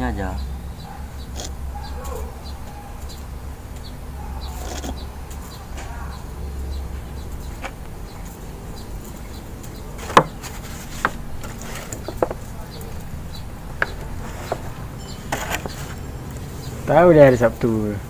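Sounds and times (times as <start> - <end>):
low hum: 0.0 - 16.9.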